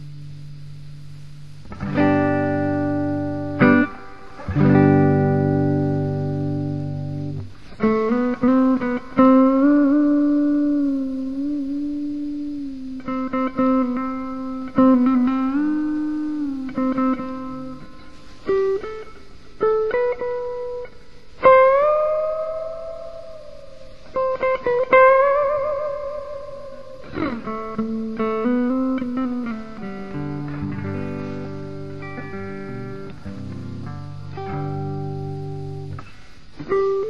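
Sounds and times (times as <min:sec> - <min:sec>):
clean electric guitar with reverb: 0:00.0 - 0:37.0.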